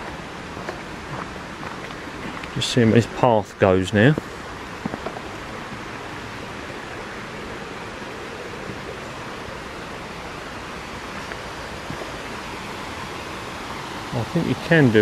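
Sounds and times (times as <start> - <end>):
water rushing in a stream: 0.0 - 15.0.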